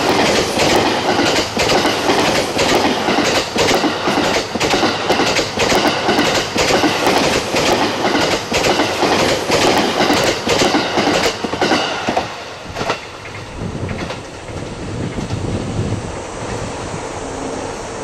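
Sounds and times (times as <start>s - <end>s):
train wheels clacking over rail joints: 0.0s - 15.5s
low train rumble: 0.0s - 18.0s.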